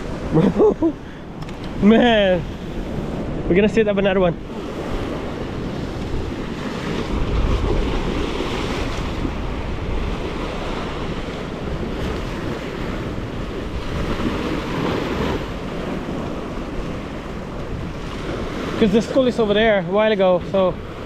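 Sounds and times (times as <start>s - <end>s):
surf washing against a jetty: 0.0s - 21.0s
wind buffeting microphone: 0.0s - 21.0s.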